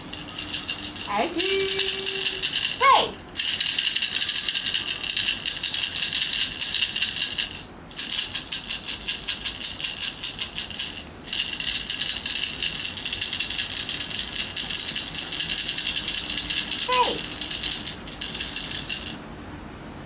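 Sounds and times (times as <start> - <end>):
baby's plastic rattle shaken: 0.0 - 19.2.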